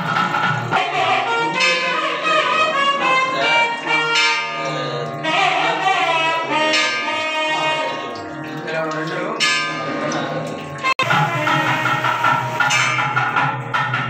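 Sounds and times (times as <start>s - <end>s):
pitched melody: 0.0s - 13.8s.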